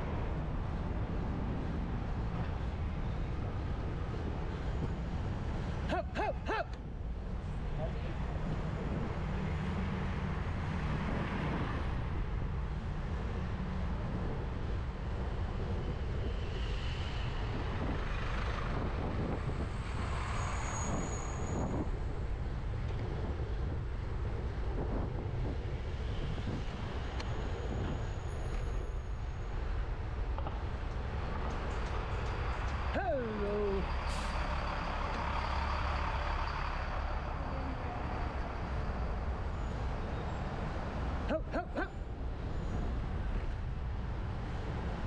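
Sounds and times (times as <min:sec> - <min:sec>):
surrounding car traffic: 0:00.0 - 0:45.0
wind and road rumble: 0:00.0 - 0:45.0.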